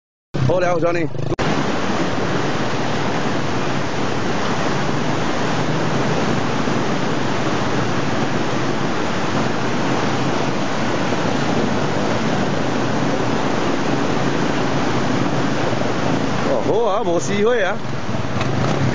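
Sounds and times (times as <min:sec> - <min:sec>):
river water rushing: 0:00.4 - 0:18.9.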